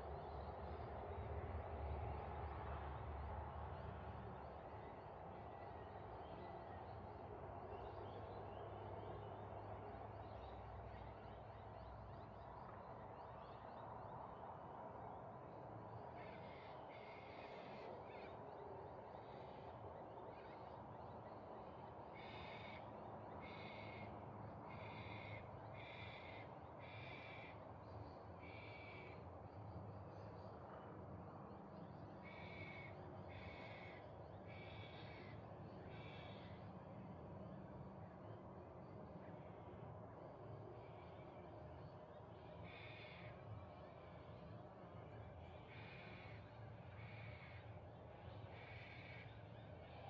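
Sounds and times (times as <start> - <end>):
faint background hum: 0.0 - 50.0.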